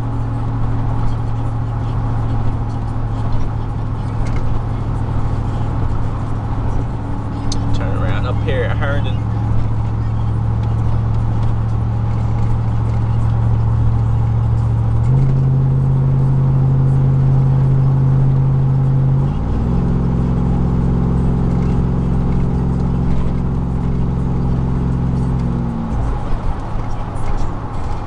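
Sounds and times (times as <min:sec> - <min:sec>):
car driving low drone: 0:00.0 - 0:28.0
road noise: 0:00.0 - 0:28.0.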